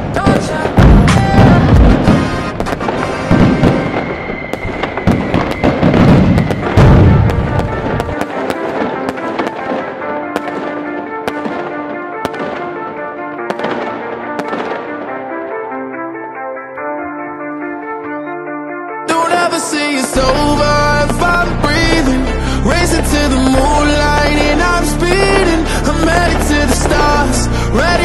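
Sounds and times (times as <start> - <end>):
fireworks booming and cracking: 0.0 - 15.5, 19.2 - 28.0
fireworks crackling: 0.0 - 15.8, 19.1 - 28.0
background music: 0.0 - 28.0.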